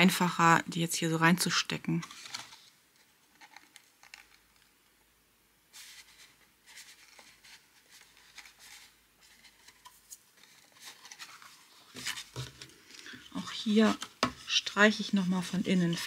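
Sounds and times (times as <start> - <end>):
craft paper rustling: 2.0 - 4.7, 5.7 - 16.0.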